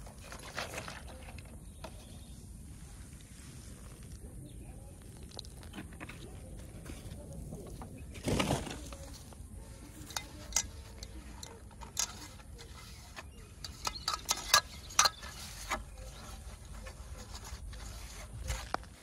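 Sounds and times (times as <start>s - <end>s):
soft rubbing of damp mix: 0.0s - 14.0s, 15.2s - 19.0s.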